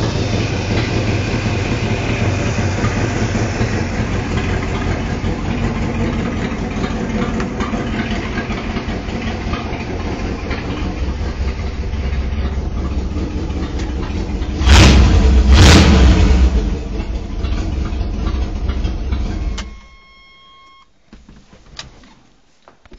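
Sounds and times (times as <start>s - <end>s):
car engine idling and revving: 0.0s - 20.8s.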